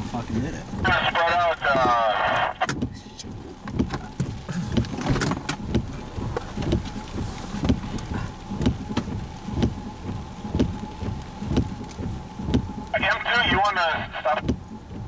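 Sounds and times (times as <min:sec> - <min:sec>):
low thumps: 0:00.0 - 0:15.0.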